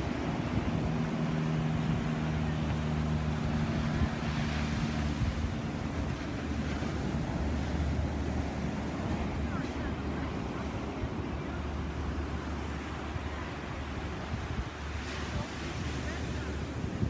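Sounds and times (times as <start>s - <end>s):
light aircraft engine drone: 0.0s - 17.0s
surf: 0.0s - 17.0s
wind on microphone: 0.0s - 17.0s.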